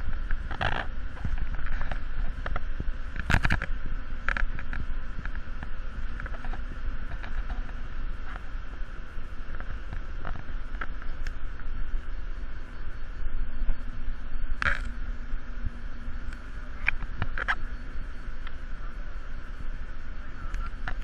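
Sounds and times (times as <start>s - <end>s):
air handling rumble and hiss: 0.0s - 21.0s
faint steady tone: 0.0s - 21.0s.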